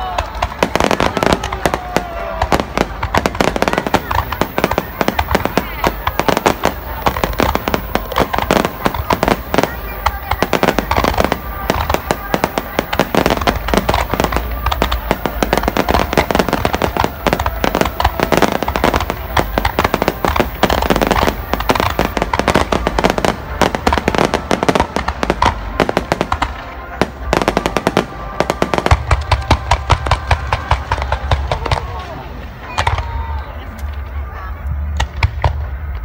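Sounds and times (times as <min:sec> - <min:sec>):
fireworks bursting and crackling: 0:00.0 - 0:36.0
low fireworks booms: 0:00.0 - 0:36.0.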